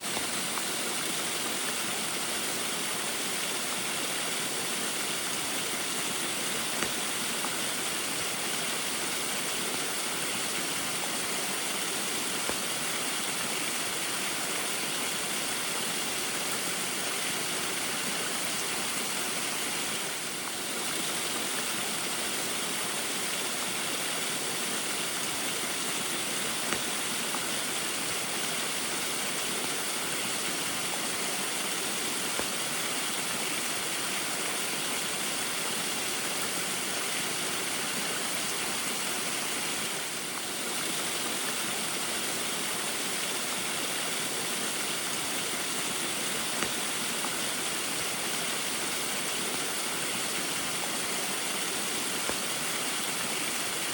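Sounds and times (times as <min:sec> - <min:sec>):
small waterfall splashing: 0:00.0 - 0:53.9
faint drip-like ticks: 0:00.1 - 0:53.9.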